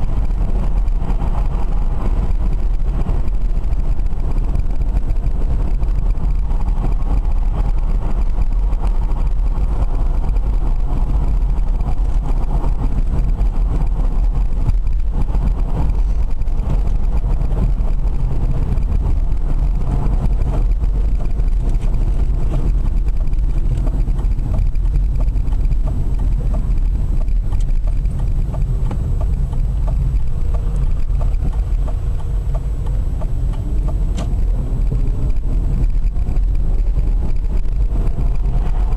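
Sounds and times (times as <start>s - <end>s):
road rumble: 0.0s - 38.9s
wind noise: 0.0s - 38.9s.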